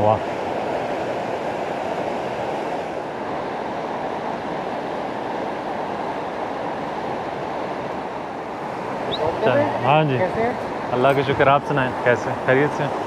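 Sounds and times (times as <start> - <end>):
river rushing over boulders: 0.0 - 13.0.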